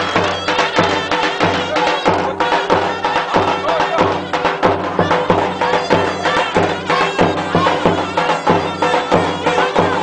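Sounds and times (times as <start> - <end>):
regular drum beat: 0.0 - 10.0
wind instrument melody: 0.0 - 10.0.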